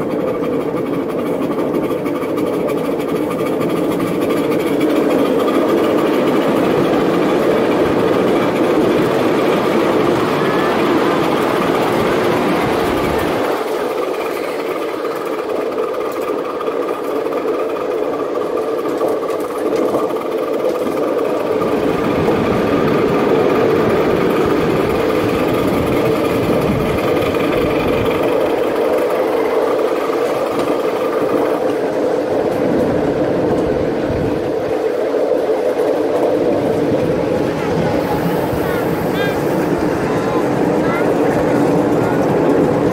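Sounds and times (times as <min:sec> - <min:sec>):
deep rumble on steel bridge: 0:00.0 - 0:42.9
miniature steam locomotive clattering: 0:00.0 - 0:42.9.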